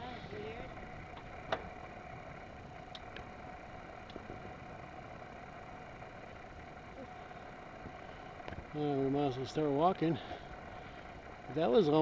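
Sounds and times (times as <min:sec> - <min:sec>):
thin steady hum: 0:00.0 - 0:12.0.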